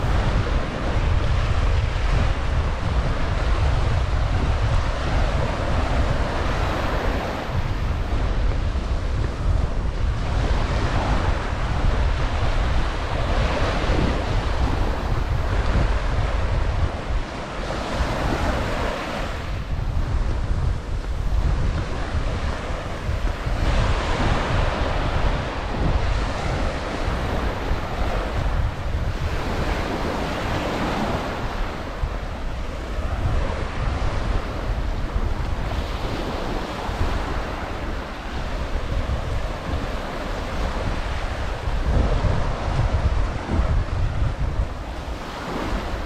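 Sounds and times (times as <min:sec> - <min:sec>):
surf washing onto beach: 0:00.0 - 0:46.0
wind buffeting microphone: 0:00.0 - 0:46.0.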